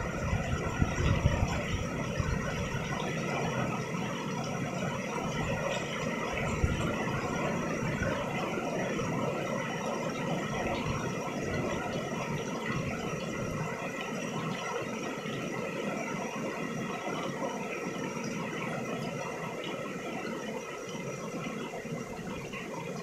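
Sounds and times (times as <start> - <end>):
rain falling on pavement: 0.0 - 23.0.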